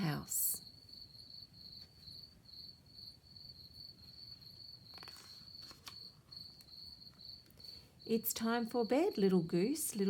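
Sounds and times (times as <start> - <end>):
faint cricket chirping: 0.0 - 10.0.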